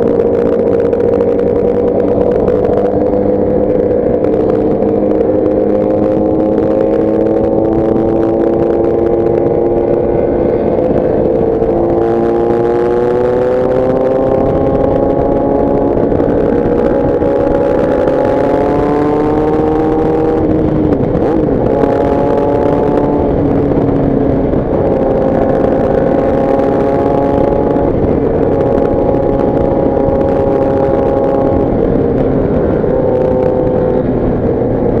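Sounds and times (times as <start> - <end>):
motorcycle engine running: 0.0 - 35.0
wind and road noise: 0.0 - 35.0.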